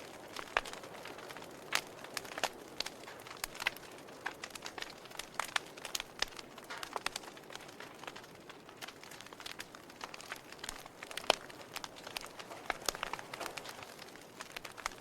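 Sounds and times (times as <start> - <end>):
burning logs crackling and popping: 0.0 - 15.0
wood fire hissing: 0.0 - 15.0.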